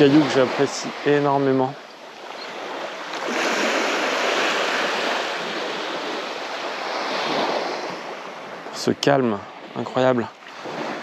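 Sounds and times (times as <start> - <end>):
small waves washing up a beach: 0.0 - 11.0.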